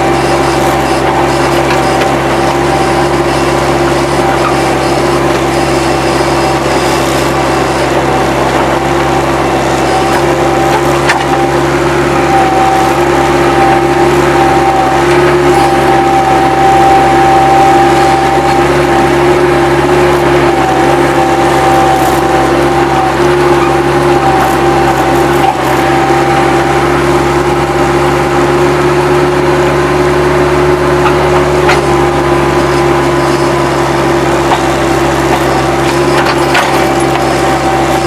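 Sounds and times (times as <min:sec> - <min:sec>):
diesel loader engine running: 0:00.0 - 0:38.0
steady whine: 0:00.0 - 0:38.0.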